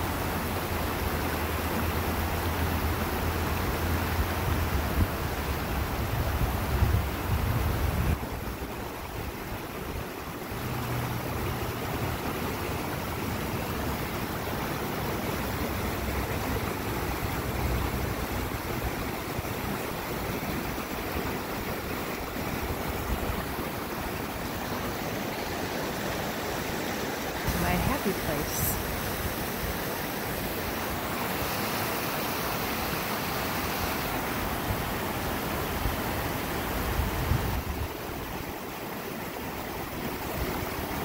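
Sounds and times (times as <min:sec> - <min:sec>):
river rushing over rocks: 0:00.0 - 0:41.0.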